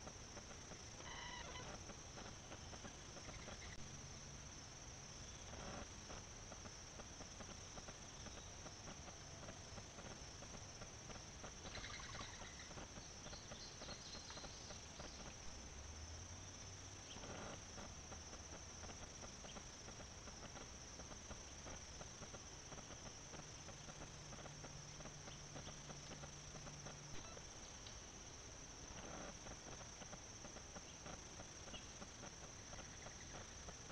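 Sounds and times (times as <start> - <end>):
insect chorus: 0.0 - 33.9
faint ticks: 5.4 - 15.5, 16.6 - 33.9.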